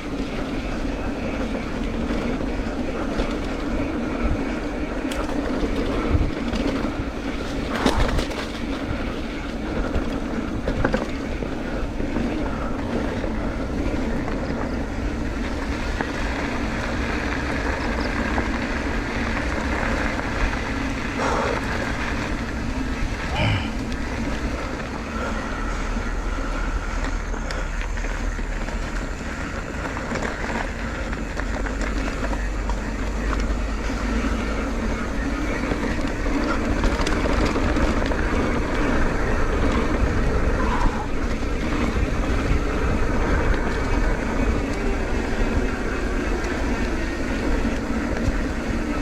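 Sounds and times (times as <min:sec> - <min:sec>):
wind noise on microphone: 0:00.0 - 0:49.0.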